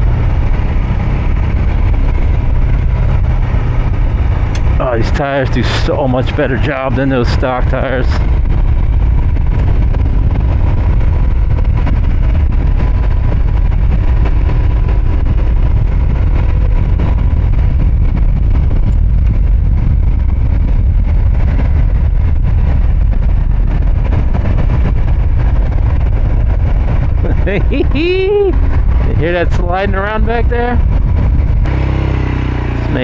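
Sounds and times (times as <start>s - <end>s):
motorcycle engine running: 0.0s - 33.0s
wind rumble on microphone: 0.0s - 33.0s.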